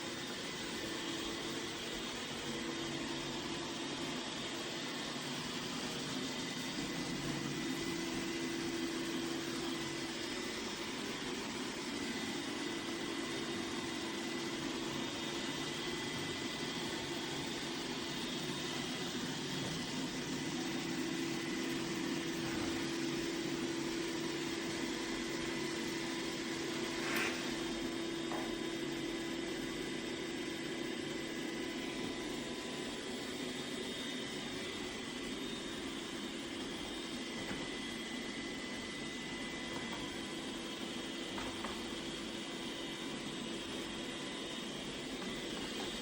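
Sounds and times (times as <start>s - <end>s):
robot vacuum whirring: 0.0s - 46.0s.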